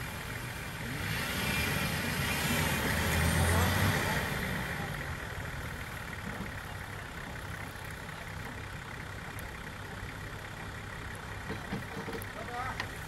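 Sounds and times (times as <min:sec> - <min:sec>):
vehicle engine idling: 0:00.0 - 0:01.1, 0:02.9 - 0:13.0.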